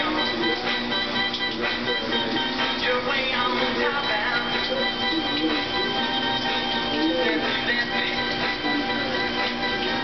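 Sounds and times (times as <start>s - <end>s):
music with gliding melody: 0.0s - 10.0s.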